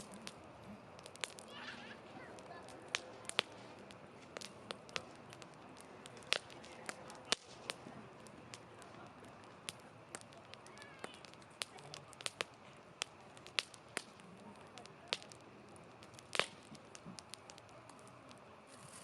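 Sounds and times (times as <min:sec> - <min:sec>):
campfire crackling and popping: 0:00.0 - 0:19.0
hiss of burning: 0:00.0 - 0:19.0.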